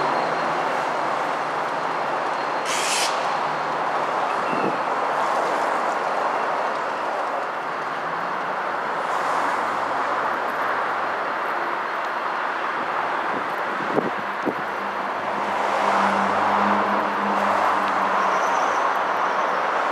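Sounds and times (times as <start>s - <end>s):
continuous rushing noise: 0.0s - 19.9s.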